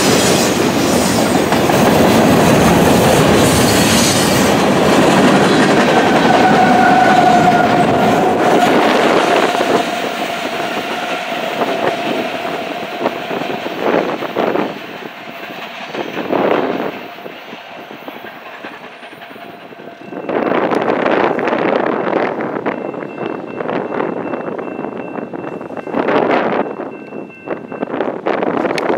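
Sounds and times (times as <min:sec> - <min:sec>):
train wheels squealing on track: 0:00.0 - 0:28.5.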